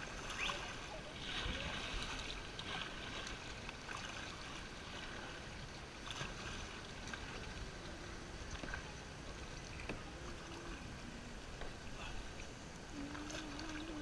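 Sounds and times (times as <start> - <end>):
kayak paddles splashing: 0.0 - 14.0
moving water wash: 0.0 - 14.0.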